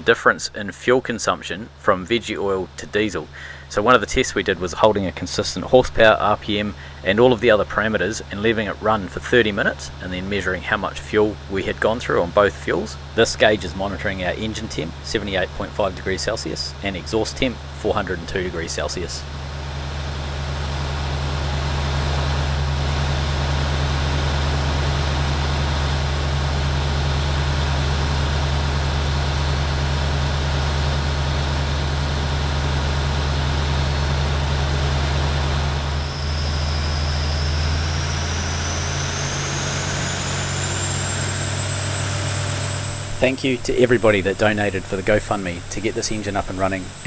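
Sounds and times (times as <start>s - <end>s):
diesel engine running under load: 0.0s - 47.0s
high whine: 0.0s - 47.0s.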